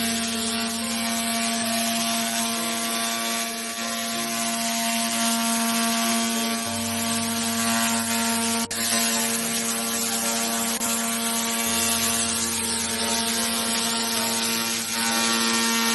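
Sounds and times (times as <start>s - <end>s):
laser cleaning machine hum: 0.0s - 15.9s.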